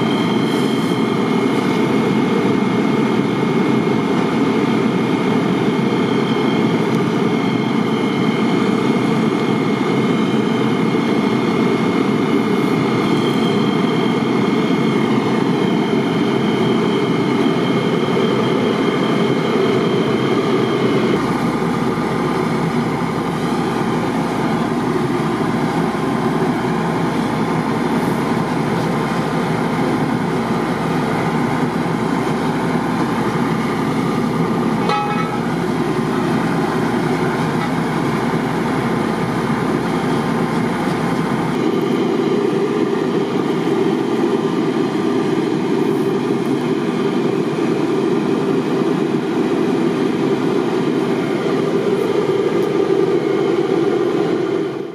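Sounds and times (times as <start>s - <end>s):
diesel engine and pump running: 0.0s - 54.9s
rushing noise: 0.0s - 54.9s.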